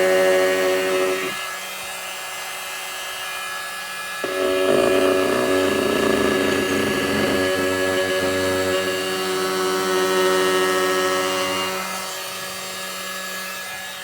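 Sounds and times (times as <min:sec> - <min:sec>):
oscillating multi-tool buzzing: 0:00.0 - 0:02.8, 0:04.1 - 0:14.0.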